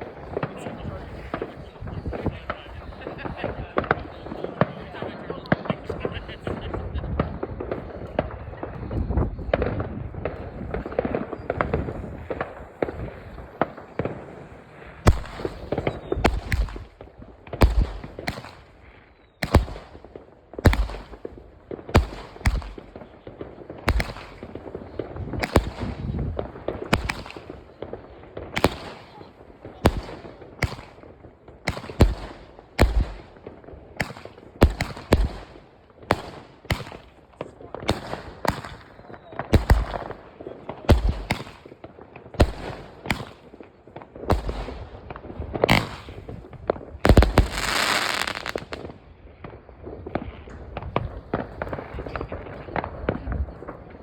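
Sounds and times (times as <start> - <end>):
fireworks crackling rumble: 0.0 - 54.0
fireworks loud bangs: 0.0 - 54.0.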